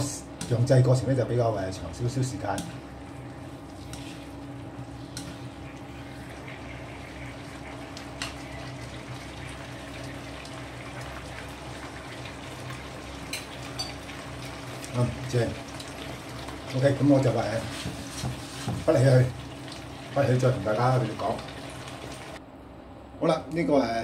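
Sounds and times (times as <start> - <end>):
steady low hum: 0.0 - 24.0
sauce bubbling in a wok: 2.8 - 22.4.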